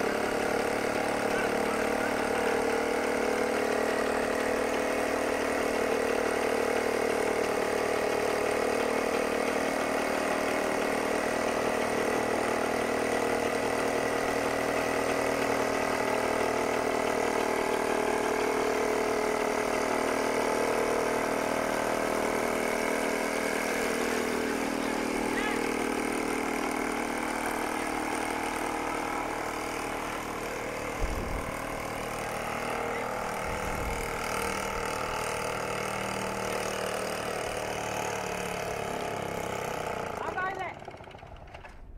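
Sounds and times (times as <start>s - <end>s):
aircraft engine and propeller: 0.0s - 41.9s.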